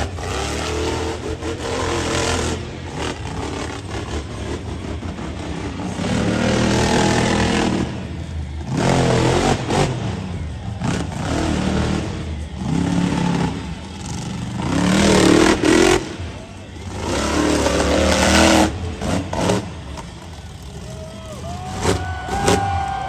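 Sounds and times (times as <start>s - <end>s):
truck engine revving hard: 0.0s - 23.0s.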